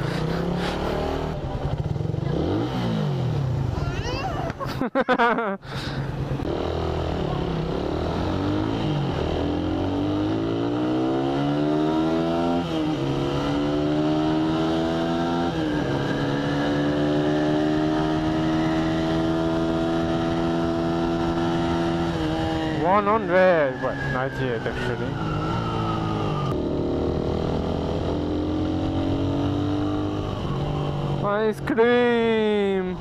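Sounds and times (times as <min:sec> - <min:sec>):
motorcycle engine accelerating: 0:00.0 - 0:03.8, 0:06.2 - 0:33.0.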